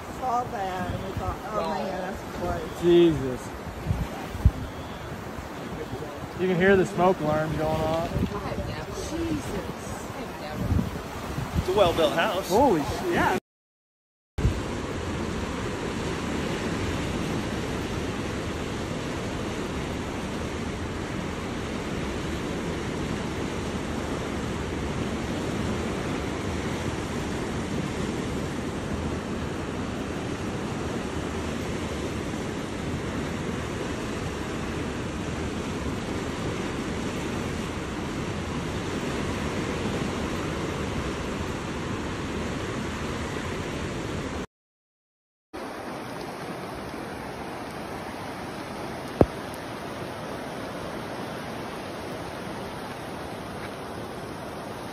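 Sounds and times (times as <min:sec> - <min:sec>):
river water rushing: 0:00.0 - 0:13.4, 0:14.4 - 0:44.4, 0:45.6 - 0:54.9.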